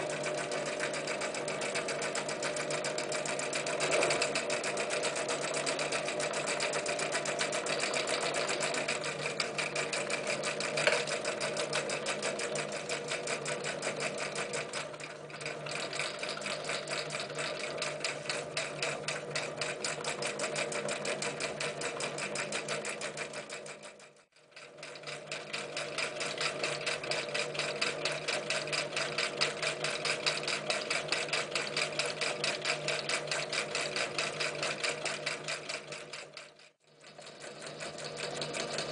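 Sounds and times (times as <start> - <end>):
sewing machine stitching: 0.0 - 38.9.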